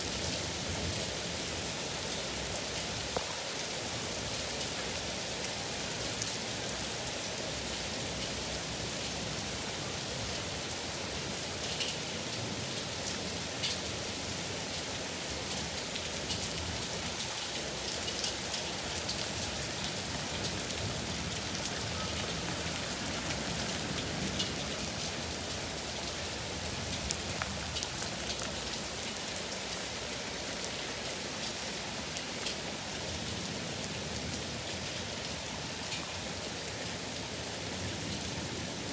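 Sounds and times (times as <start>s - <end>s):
heavy rain falling: 0.0s - 38.9s
raindrops ticking close by: 2.0s - 3.6s, 7.5s - 38.7s.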